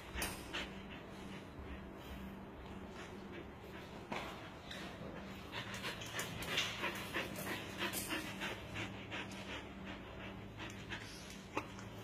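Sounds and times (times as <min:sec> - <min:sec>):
dog panting rapidly: 0:00.0 - 0:12.0.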